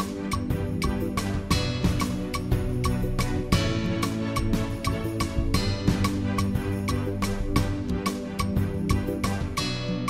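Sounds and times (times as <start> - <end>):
film score music: 0.0 - 10.0
steady percussive beat: 0.0 - 10.0.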